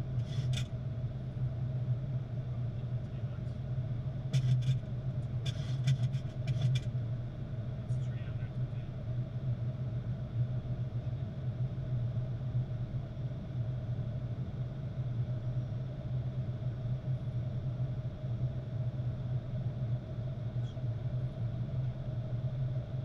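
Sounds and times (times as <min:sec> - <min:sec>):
aircraft airflow and engine rumble: 0:00.0 - 0:23.0
faint steady hum: 0:00.0 - 0:23.0.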